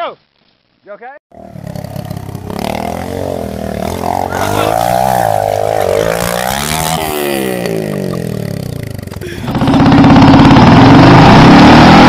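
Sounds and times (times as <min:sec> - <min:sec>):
dirt bike engine revving: 0:01.3 - 0:12.0.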